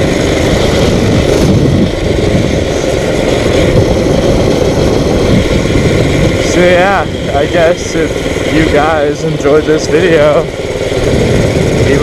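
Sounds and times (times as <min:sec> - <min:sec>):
dirt bike engine: 0:00.0 - 0:12.0
wind rush on microphone: 0:00.0 - 0:12.0.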